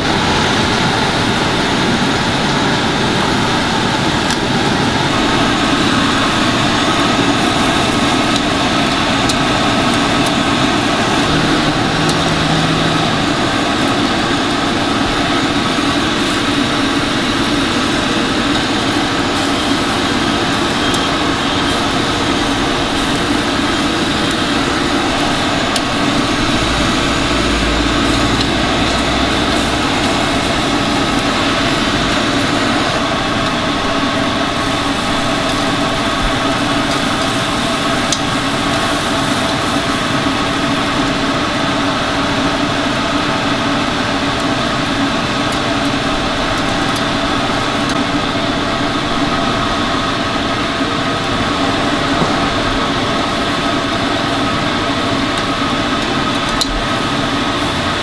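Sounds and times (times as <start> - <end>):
ventilation blower whirring: 0.0 - 58.0.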